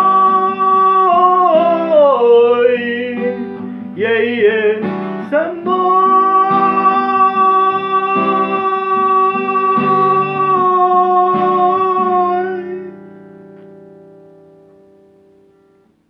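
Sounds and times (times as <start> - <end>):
acoustic guitar strummed slowly: 0.0 - 16.0.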